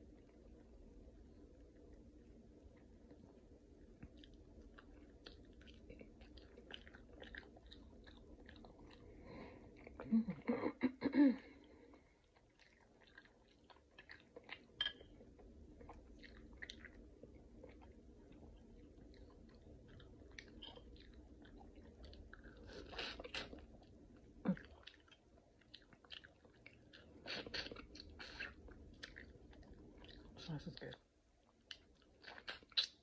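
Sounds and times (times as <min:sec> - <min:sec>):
chewing and wet mouth sounds: 0:00.0 - 0:10.5, 0:11.4 - 0:33.0.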